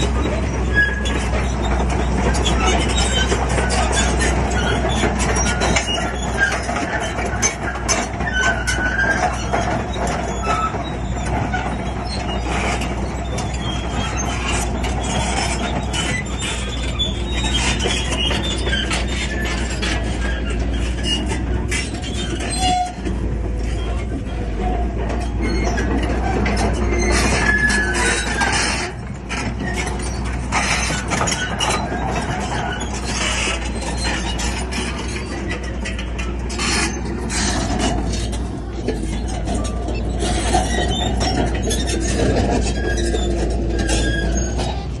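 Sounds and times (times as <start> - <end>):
bulldozer diesel drone: 0.0 - 45.0
steel tracks clanking and squealing: 0.0 - 45.0.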